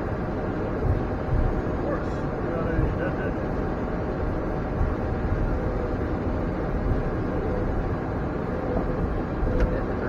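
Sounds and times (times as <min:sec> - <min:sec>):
faint hum: 0:00.0 - 0:10.0
jet cockpit rumble and hiss: 0:00.0 - 0:10.0.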